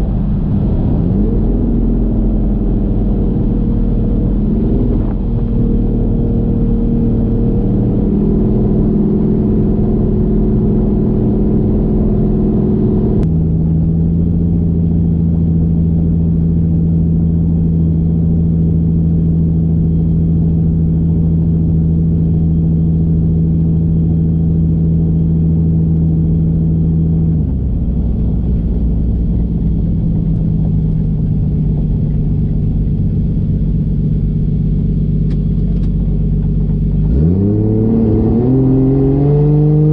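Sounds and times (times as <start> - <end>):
car engine cruising: 0.0 - 39.9.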